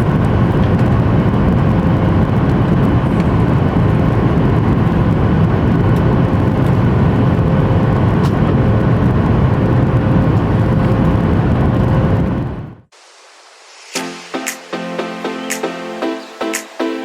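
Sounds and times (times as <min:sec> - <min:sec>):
jet engine drone in cabin: 0:00.0 - 0:17.0.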